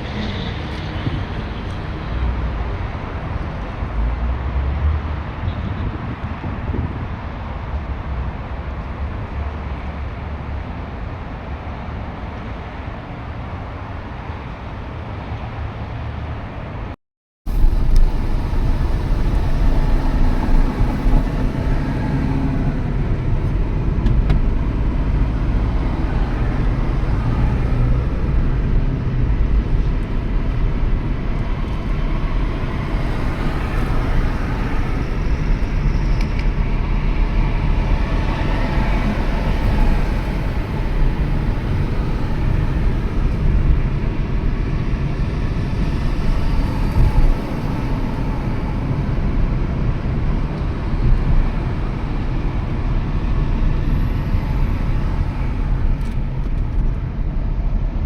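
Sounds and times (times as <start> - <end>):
car road and wind noise: 0.0 - 58.0.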